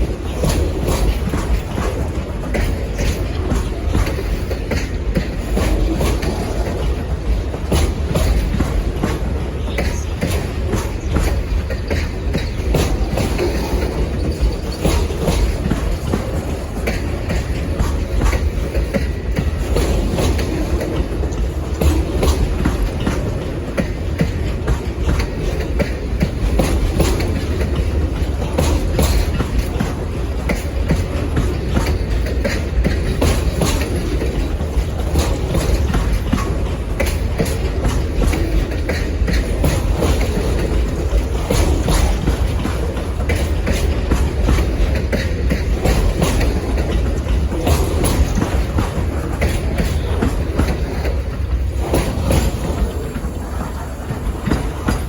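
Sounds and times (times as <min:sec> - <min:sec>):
low rumble of train cars: 0:00.0 - 0:55.0
train wheels clicking over rail joints: 0:00.0 - 0:55.0.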